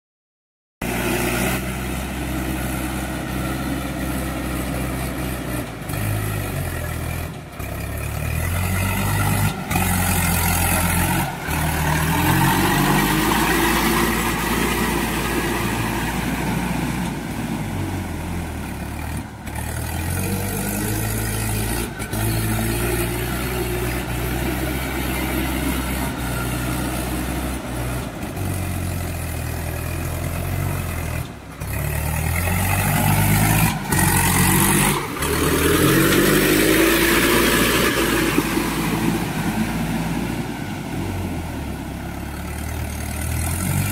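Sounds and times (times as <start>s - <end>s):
tractor diesel engine running: 0.8s - 43.9s.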